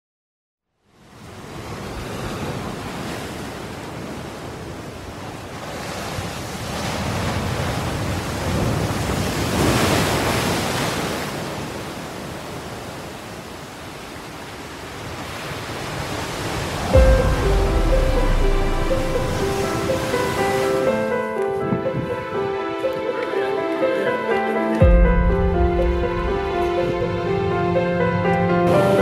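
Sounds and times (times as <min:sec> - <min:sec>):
ocean waves washing in: 0:00.8 - 0:29.0.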